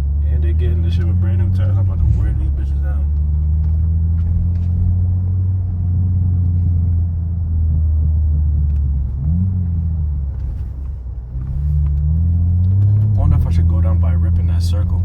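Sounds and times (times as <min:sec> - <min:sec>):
car engine droning while driving: 0:00.0 - 0:15.0.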